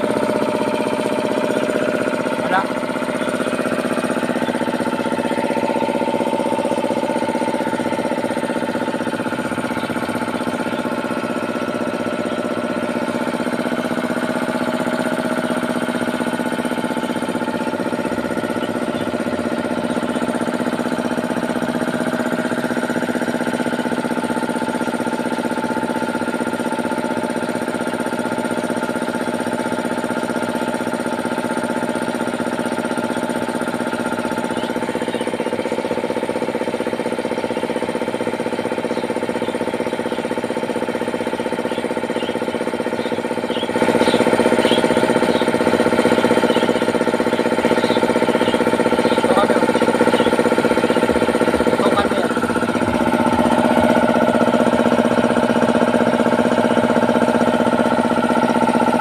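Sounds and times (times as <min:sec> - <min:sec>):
air compressor humming: 0:00.0 - 0:59.0.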